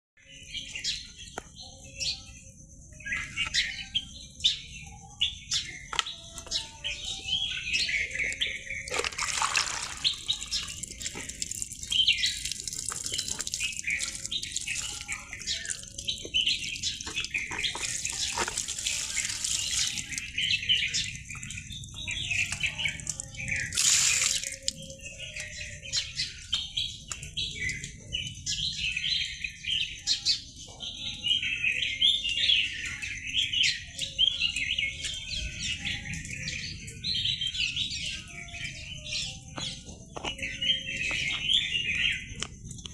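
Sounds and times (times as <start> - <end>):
birds chirping: 0.2 - 42.9.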